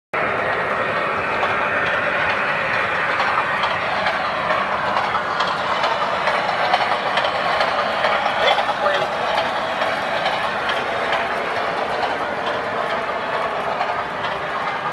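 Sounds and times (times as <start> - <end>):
light clicks over rails: 0.2 - 14.9
model train motors and wheels rushing: 0.2 - 14.9.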